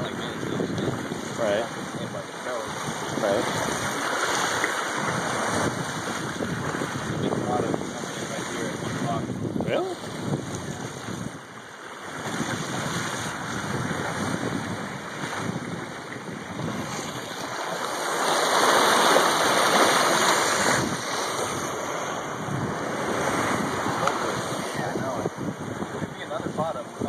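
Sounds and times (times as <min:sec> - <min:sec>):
sea water splashing along hull: 0:00.0 - 0:27.0
wind buffeting microphone: 0:00.0 - 0:27.0.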